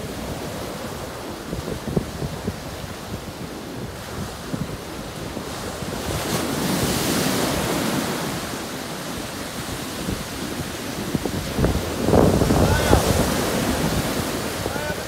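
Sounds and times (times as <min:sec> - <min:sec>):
surf washing up a beach: 0:00.0 - 0:15.0.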